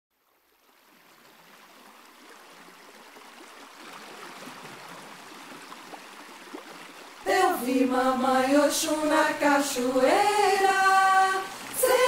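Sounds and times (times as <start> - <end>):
stream rushing and gurgling: 0.4 - 12.0.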